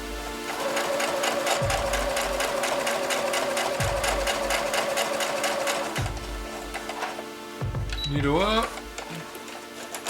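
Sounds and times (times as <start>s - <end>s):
sewing machine stitching: 0.4s - 7.2s, 7.9s - 10.0s.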